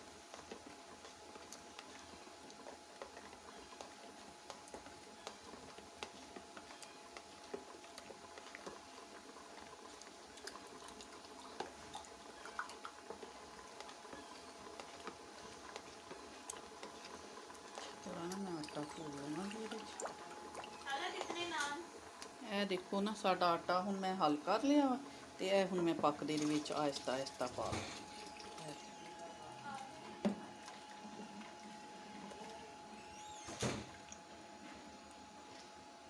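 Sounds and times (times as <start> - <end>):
broth bubbling in a pot: 0.0 - 36.0.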